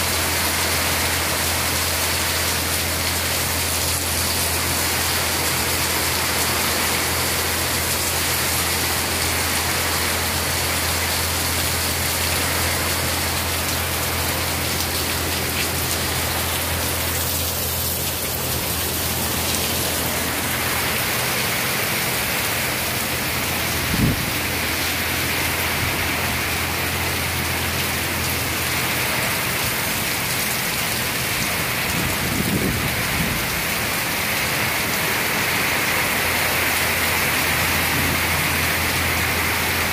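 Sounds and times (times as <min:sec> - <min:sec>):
heavy rain on concrete: 0:00.0 - 0:39.9.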